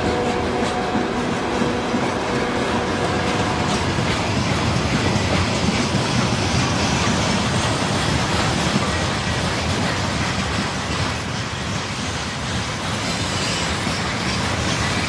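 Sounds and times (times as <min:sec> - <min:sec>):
steel train wheels on rails: 0:00.0 - 0:15.0.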